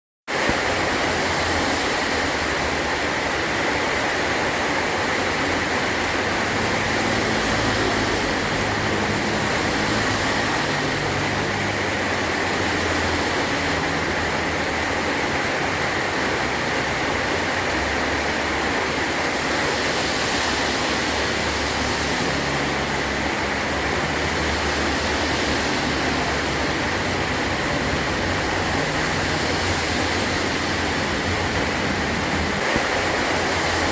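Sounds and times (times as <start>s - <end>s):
heavy rain on a tin roof: 0.3s - 33.9s.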